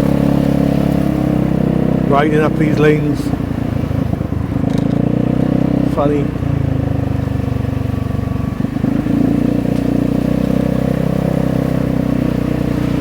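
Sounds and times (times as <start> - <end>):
scooter engine with loud exhaust: 0.0 - 13.0.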